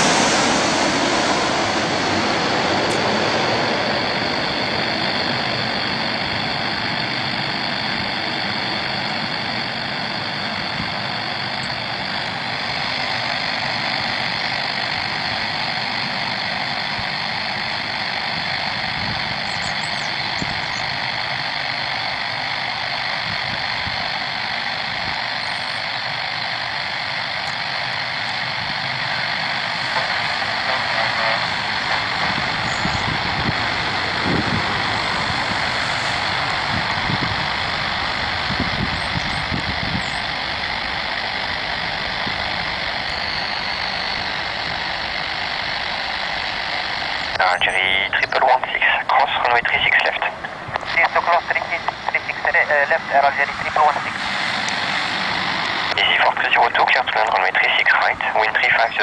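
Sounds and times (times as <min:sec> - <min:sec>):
jet engine rumble with whine: 0:00.0 - 0:59.0.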